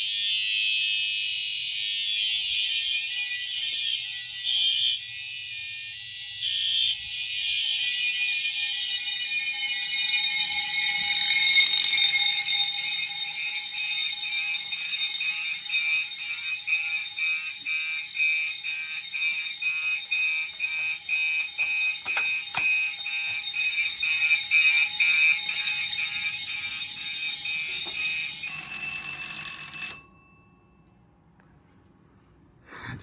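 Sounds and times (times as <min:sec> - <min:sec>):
pulsing fire alarm horn: 0:00.0 - 0:30.0
fire alarm steady high tones: 0:00.0 - 0:30.9.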